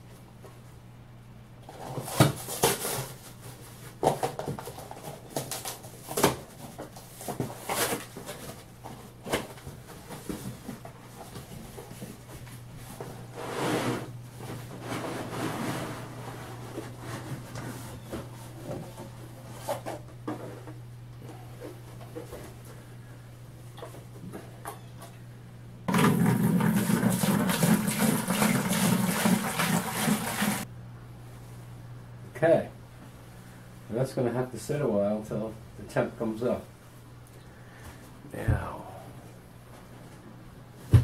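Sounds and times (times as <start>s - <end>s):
steady low hum: 2.5s - 25.9s, 30.6s - 41.0s.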